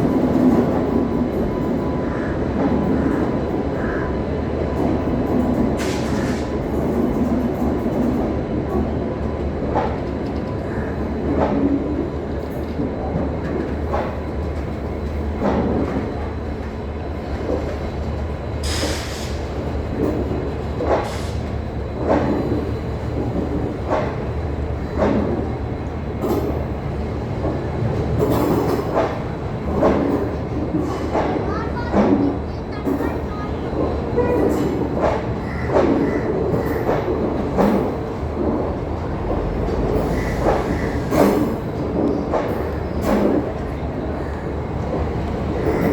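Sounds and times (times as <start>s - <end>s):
train coaches rumbling: 0.0s - 45.9s.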